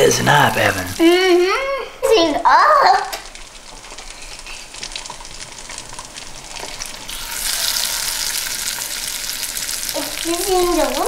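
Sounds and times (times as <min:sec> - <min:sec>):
foam fizzing with crackling hiss: 0:00.3 - 0:02.0, 0:02.6 - 0:11.0.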